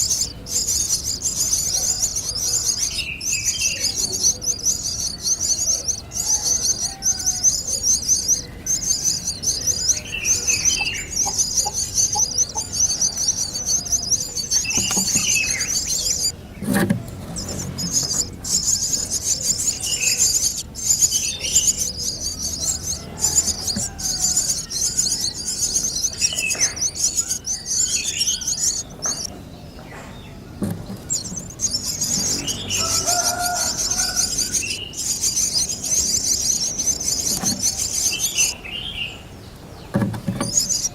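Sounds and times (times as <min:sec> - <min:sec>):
birds chattering and chirping: 0:00.0 - 0:40.9.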